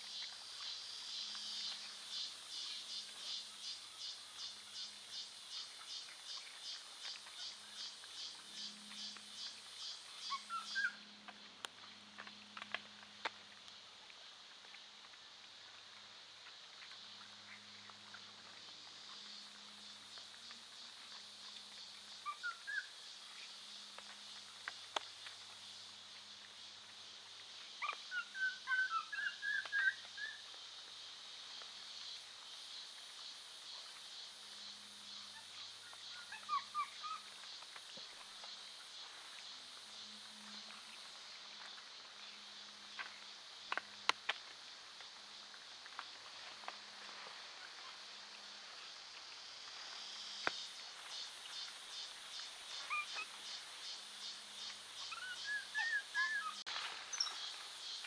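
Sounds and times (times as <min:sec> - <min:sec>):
forest background hiss: 0:00.0 - 0:58.0.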